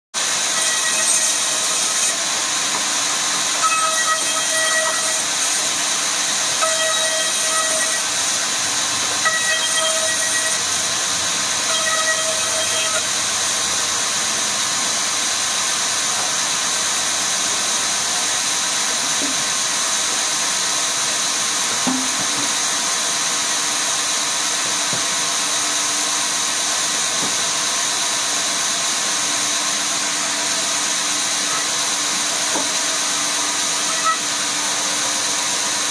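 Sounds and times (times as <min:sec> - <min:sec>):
woodworking machinery running: 0:00.2 - 0:35.9.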